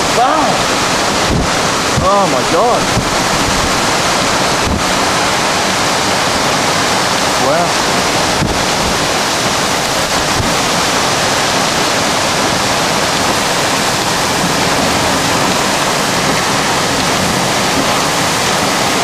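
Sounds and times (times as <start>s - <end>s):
storm winds gusting: 0.0s - 19.0s.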